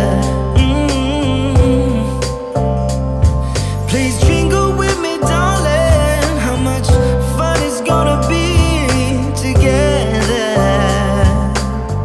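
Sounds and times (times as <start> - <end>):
bass notes: 0.0 - 12.0
person singing with vibrato: 0.0 - 12.0.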